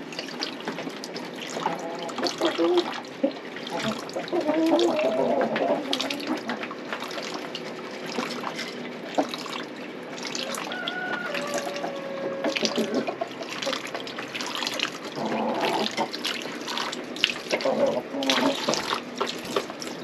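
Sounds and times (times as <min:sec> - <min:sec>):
water pouring and splashing: 0:00.0 - 0:20.0.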